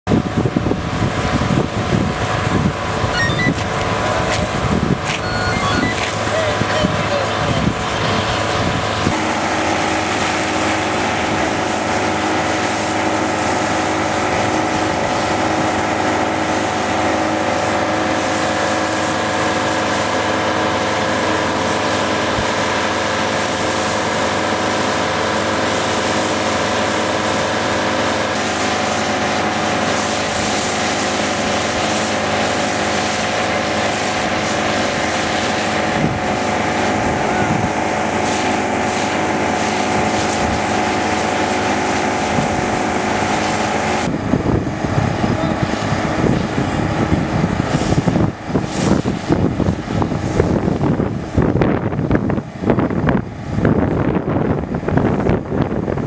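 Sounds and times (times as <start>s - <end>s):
fire engine running: 0.0s - 56.0s.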